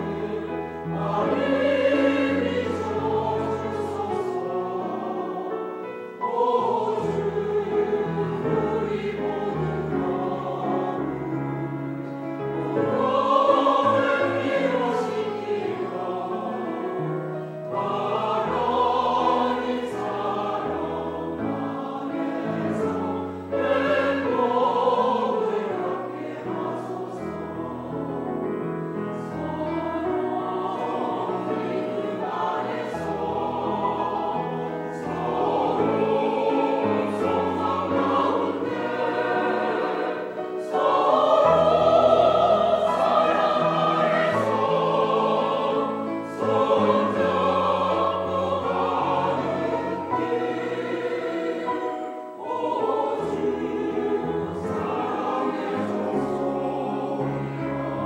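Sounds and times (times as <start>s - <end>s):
choir singing a hymn: 0.0s - 58.0s
piano accompaniment: 0.0s - 58.0s.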